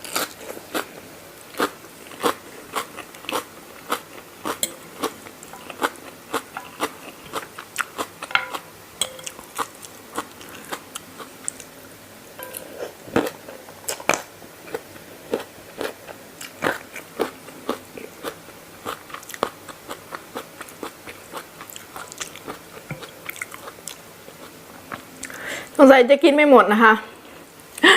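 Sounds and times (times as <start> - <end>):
chewing and crunching food: 0.0 - 8.3, 9.2 - 11.7, 12.6 - 25.4.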